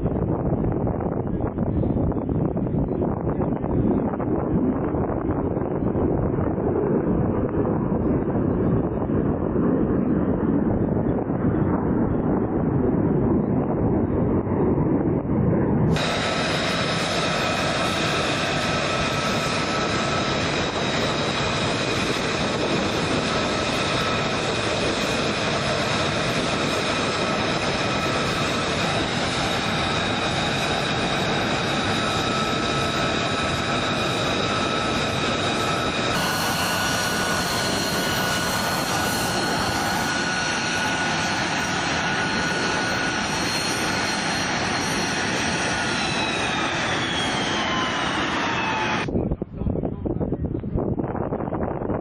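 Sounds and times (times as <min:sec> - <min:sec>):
jet engine idling with whine: 0:00.0 - 0:52.0.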